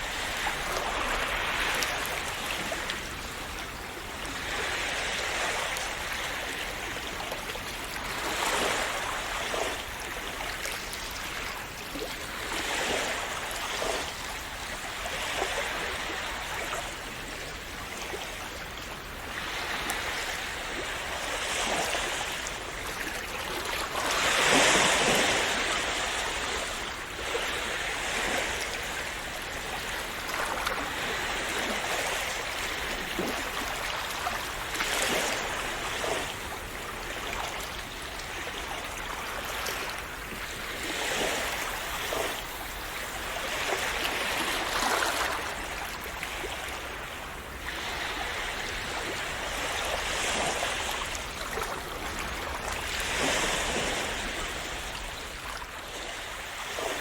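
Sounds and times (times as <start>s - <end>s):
waves splashing on shore: 0.0s - 57.0s.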